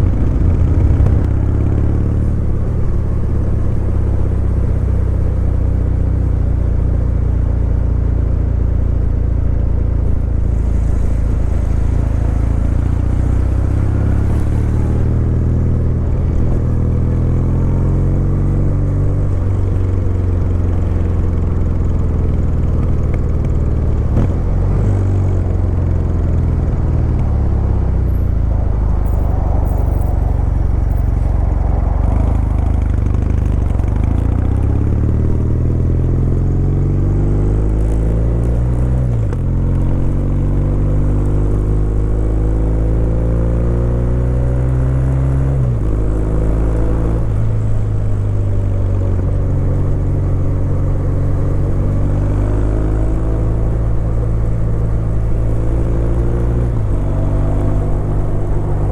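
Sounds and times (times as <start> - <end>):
motorcycle engine accelerating: 0.0 - 6.9, 7.8 - 58.9.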